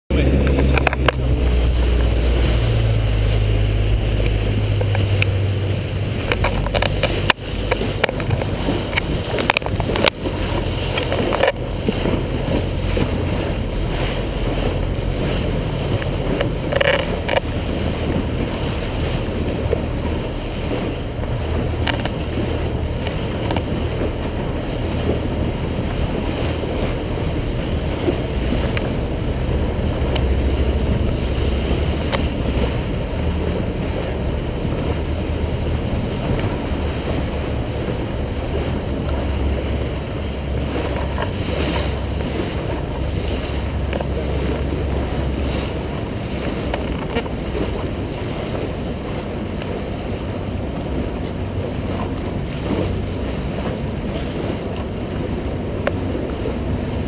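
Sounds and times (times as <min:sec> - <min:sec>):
boat engine drone: 0:00.0 - 0:57.0
water rushing and splashing: 0:00.0 - 0:57.0.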